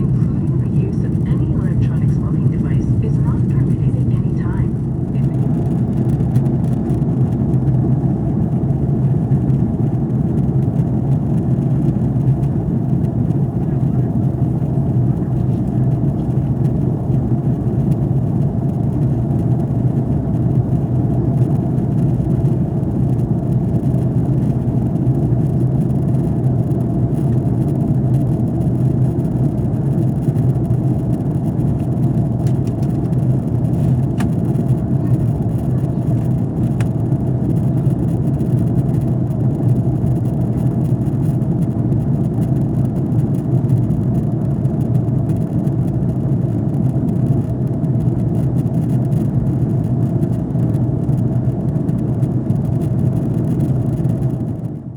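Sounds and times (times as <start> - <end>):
aircraft cabin engine drone: 0.0 - 54.9.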